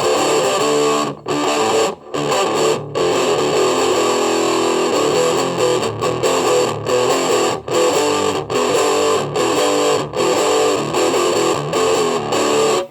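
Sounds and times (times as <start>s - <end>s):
distorted electric guitar strumming: 0.0s - 12.9s.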